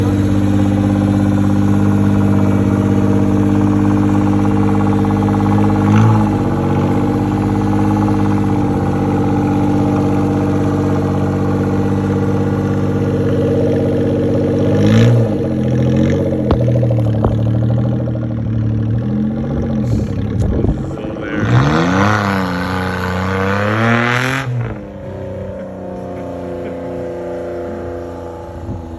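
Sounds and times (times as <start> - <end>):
small van engine idling and revving: 0.0 - 28.9.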